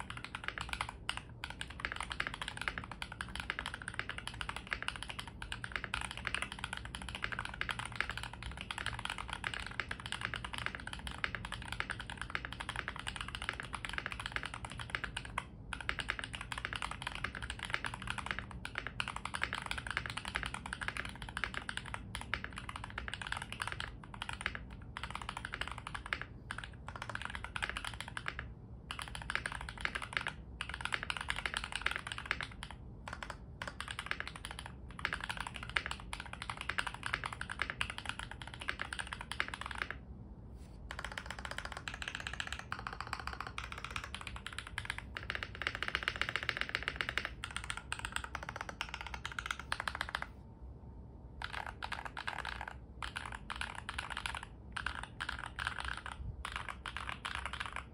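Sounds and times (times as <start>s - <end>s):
mechanical keyboard typing: 0.0s - 40.0s, 40.9s - 50.4s, 51.4s - 57.9s.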